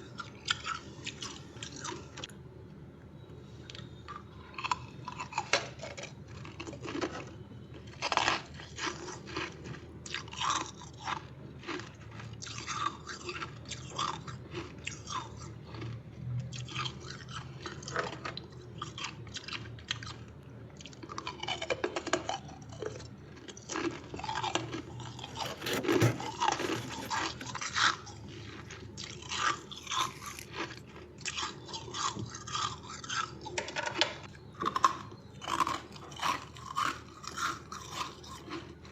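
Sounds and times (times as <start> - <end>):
frost being chewed: 0.0 - 2.4, 3.6 - 38.9.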